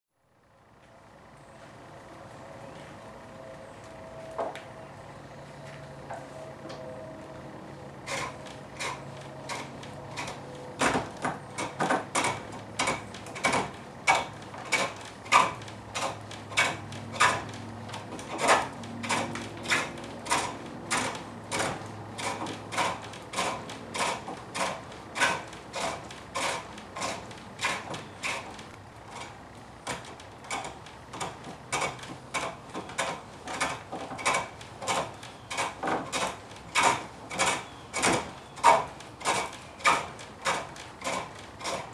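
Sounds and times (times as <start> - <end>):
gouge scraping wood on lathe: 8.0 - 41.9.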